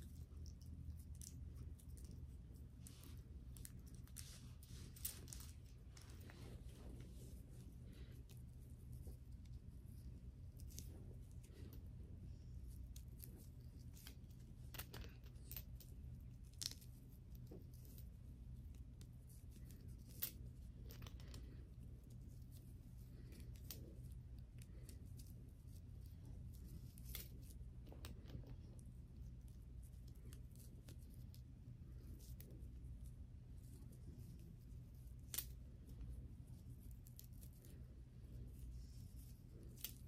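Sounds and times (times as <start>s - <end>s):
fingers rustling braided hair: 0.0s - 40.0s
low steady hum: 0.0s - 40.0s.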